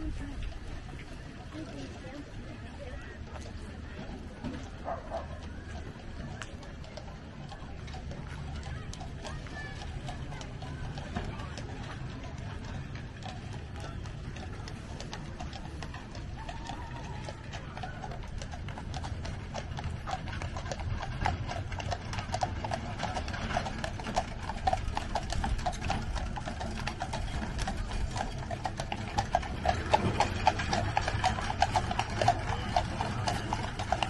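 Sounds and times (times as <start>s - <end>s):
horse hooves clip-clopping: 0.0s - 34.0s.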